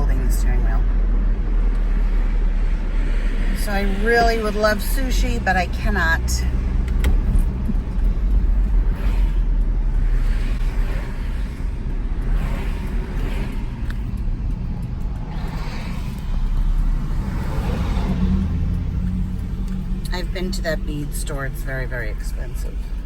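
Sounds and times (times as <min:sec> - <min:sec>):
road and engine rumble in cab: 0:00.0 - 0:23.0.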